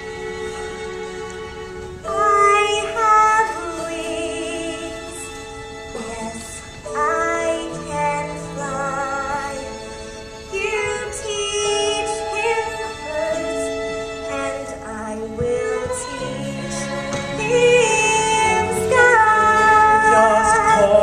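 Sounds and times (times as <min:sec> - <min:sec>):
sustained instrumental accompaniment: 0:00.0 - 0:21.0
woman singing with vibrato: 0:02.1 - 0:09.8, 0:10.6 - 0:21.0.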